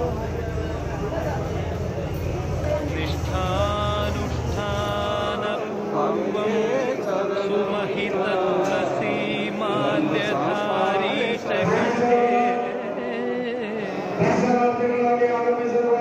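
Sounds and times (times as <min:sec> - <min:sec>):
crowd chanting: 0:00.0 - 0:16.0.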